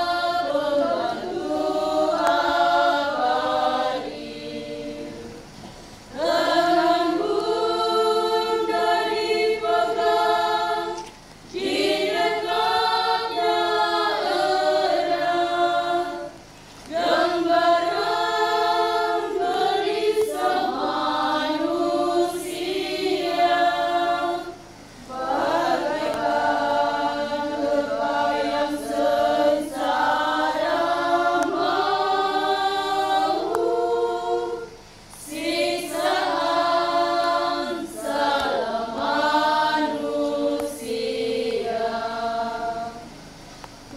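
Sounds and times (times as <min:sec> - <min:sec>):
women's choir singing a hymn: 0:00.0 - 0:43.9.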